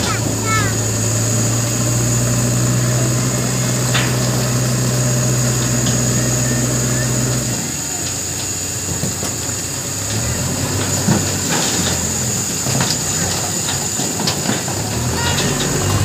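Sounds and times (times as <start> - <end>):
diesel truck engine revving: 0.0 - 16.0.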